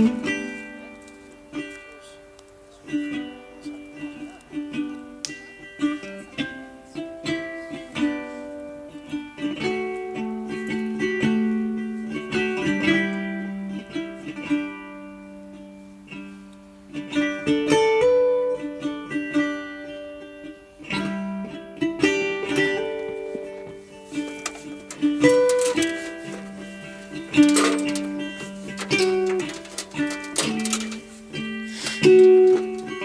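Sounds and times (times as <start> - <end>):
plucked string melody: 0.0 - 33.0.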